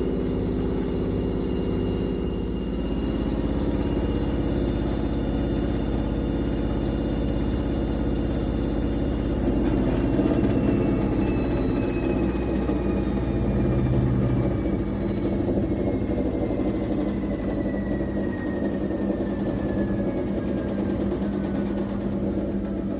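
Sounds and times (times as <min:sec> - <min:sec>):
washing machine running: 0:00.0 - 0:22.9.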